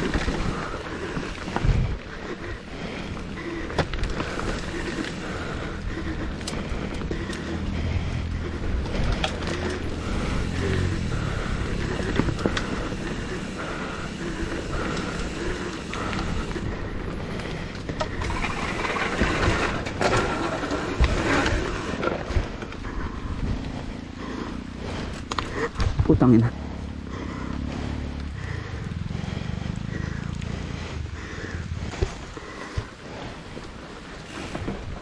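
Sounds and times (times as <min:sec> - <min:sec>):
bike rattling over bumps: 0:00.0 - 0:35.0
rushing noise of tyres and air: 0:00.0 - 0:35.0.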